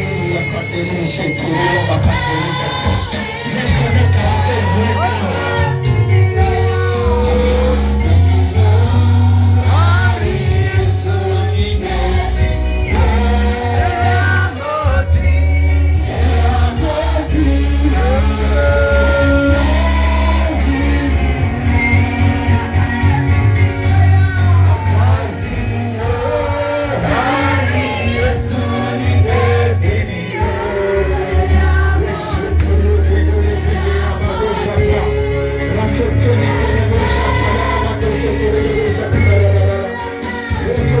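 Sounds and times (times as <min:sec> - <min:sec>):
band with loud bass: 0:00.0 - 0:41.0
group singing gospel song: 0:00.0 - 0:41.0.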